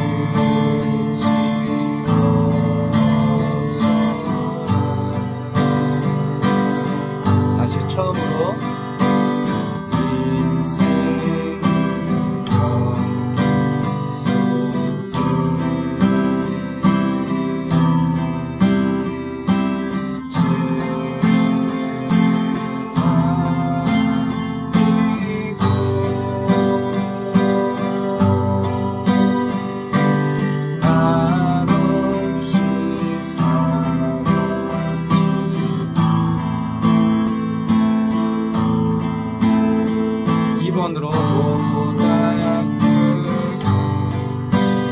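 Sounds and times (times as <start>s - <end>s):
acoustic guitar waltz: 0.0s - 44.9s.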